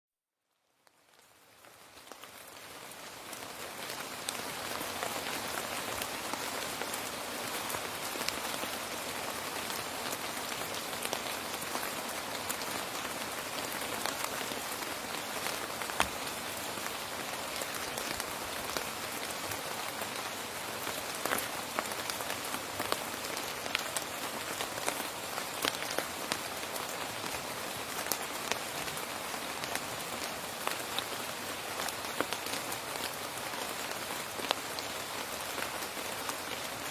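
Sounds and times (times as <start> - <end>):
steady rain falling: 0.4 - 36.9.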